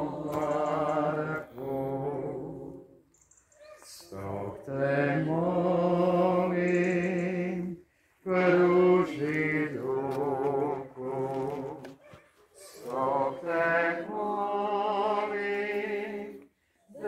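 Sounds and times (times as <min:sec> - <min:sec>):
slow church hymn singing: 0:00.0 - 0:17.0.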